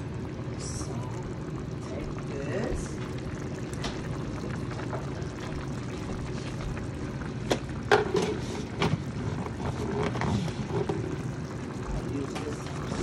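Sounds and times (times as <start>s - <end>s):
food simmering in skillet: 0.0s - 13.0s.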